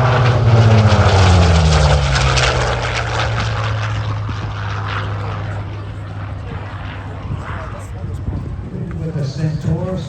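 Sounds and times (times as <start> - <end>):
propeller aircraft passing low: 0.0 - 10.0.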